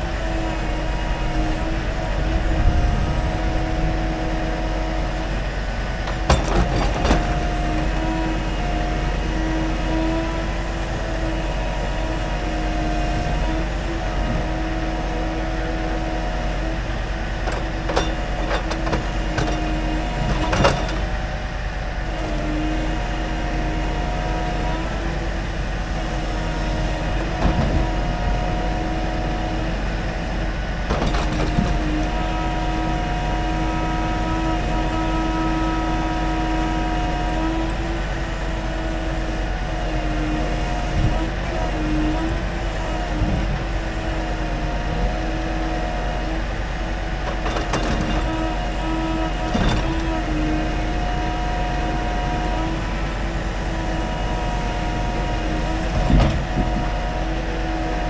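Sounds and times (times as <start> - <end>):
hydraulic crane whining hum: 0.0 - 58.0
truck engine running: 0.0 - 58.0.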